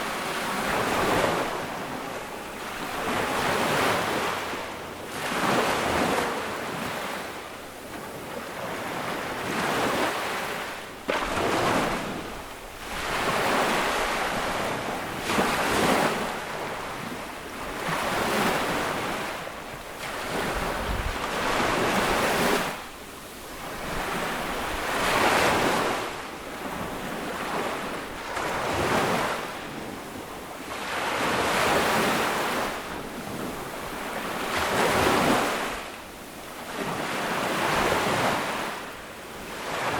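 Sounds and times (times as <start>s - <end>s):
ocean waves breaking: 0.0s - 36.0s, 36.6s - 39.9s.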